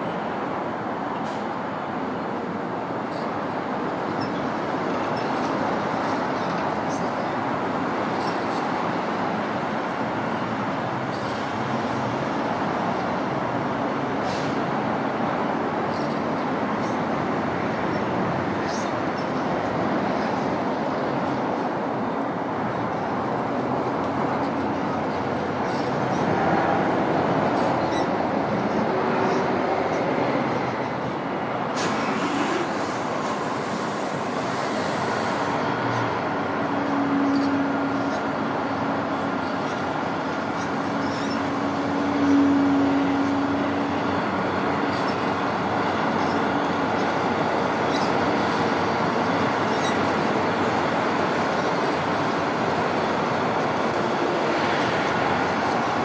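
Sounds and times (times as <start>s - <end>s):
passing vehicles rumbling: 0.0s - 56.0s.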